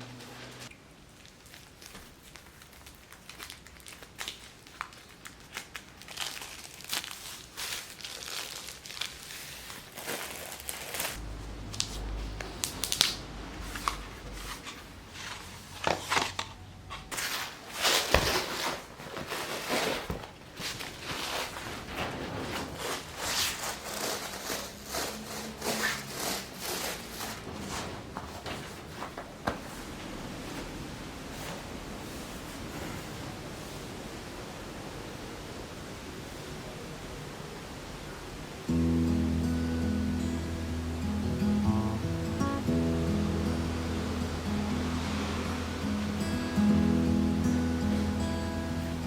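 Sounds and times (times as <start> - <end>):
rustling and crinkling: 0.0 - 34.6, 43.7 - 49.0.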